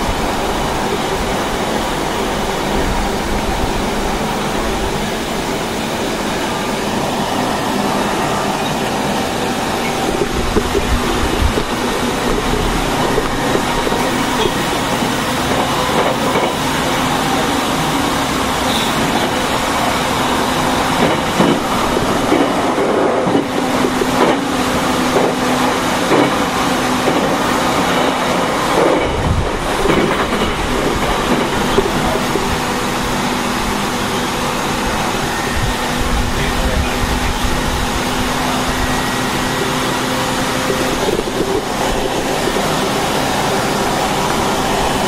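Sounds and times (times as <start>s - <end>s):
train interior hum: 0.0s - 45.0s.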